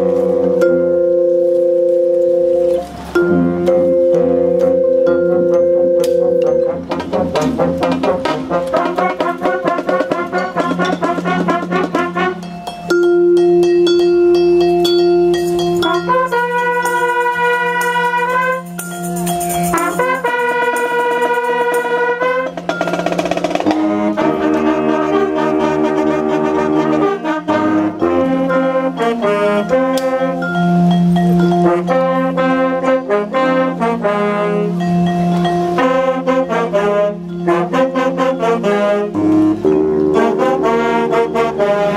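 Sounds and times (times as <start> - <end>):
marimba: 0.0 - 41.9
brass band playing upbeat tune: 2.7 - 13.4, 15.3 - 41.9.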